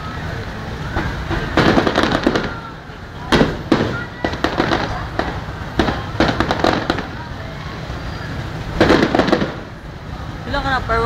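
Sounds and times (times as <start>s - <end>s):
fireworks crackle: 0.0s - 11.0s
fireworks bangs: 0.8s - 10.8s.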